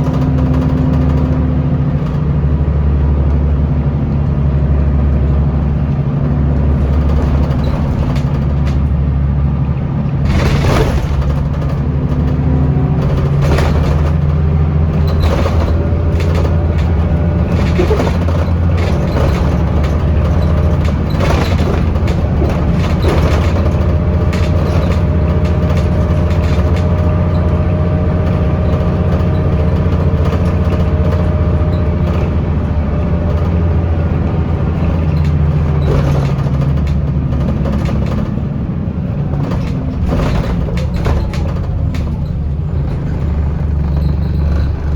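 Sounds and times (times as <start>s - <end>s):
body rattles and knocks: 0.0s - 44.9s
bus engine droning: 0.0s - 44.9s.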